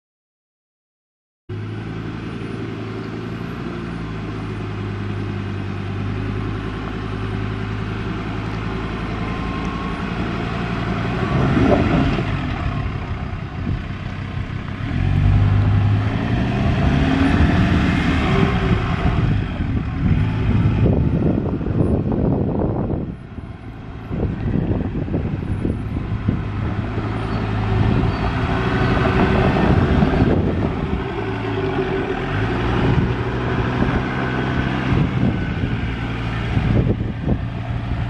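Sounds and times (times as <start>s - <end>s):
truck engine revving uphill: 1.5s - 38.0s.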